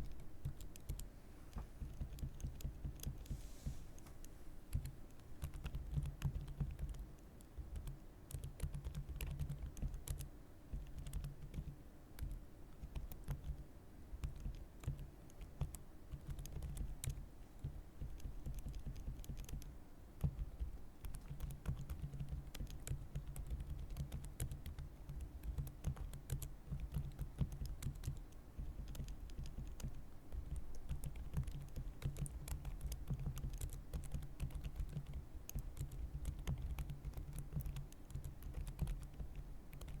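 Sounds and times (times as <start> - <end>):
keyboard typing: 0.0 - 3.4, 4.7 - 13.6, 14.2 - 40.0.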